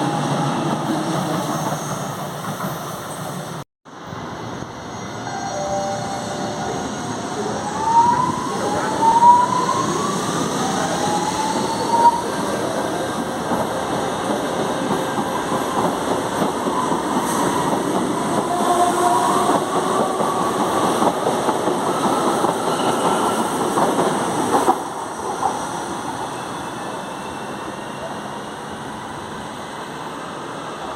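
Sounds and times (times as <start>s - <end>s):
train wheel and track noise: 0.0s - 30.9s.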